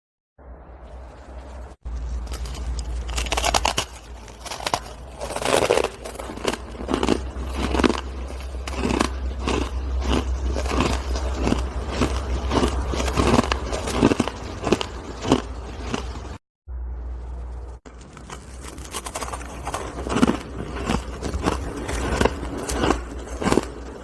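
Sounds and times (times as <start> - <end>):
low steady hum: 0.4 - 24.0
chewing crunchy ice: 2.0 - 16.4, 17.9 - 24.0.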